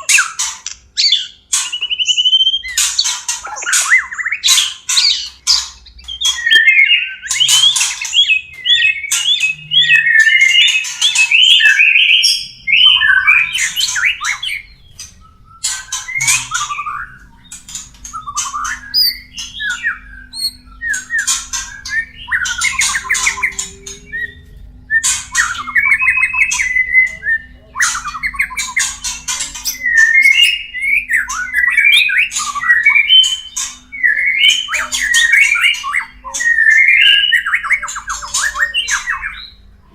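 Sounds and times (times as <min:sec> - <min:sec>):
bird whistling and warbling: 0:00.0 - 0:39.6.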